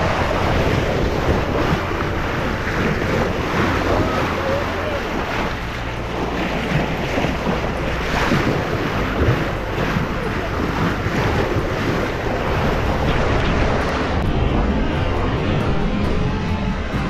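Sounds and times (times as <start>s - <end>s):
sea splashing along hull: 0.0s - 17.0s
wind buffeting microphone: 0.0s - 17.0s.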